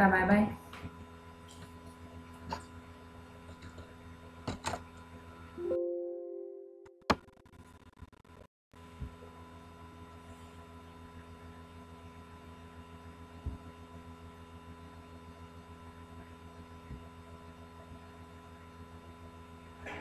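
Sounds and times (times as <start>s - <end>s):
electrical hum with low pulsing: 0.0s - 6.4s, 8.8s - 20.0s.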